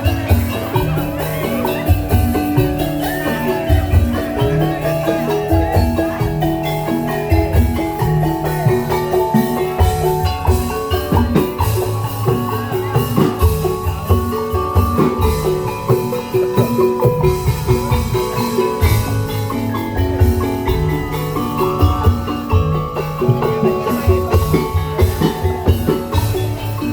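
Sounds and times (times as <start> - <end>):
drums steady beat: 0.0 - 26.9
pitched bamboo percussion: 0.0 - 26.9.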